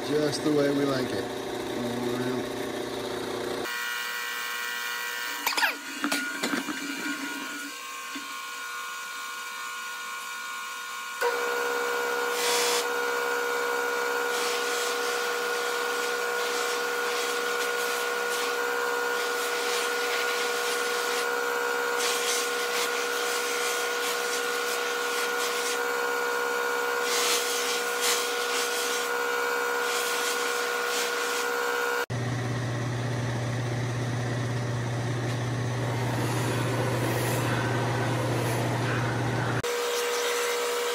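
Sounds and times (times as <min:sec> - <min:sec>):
buffing machine hum and whine: 0:00.0 - 0:40.9.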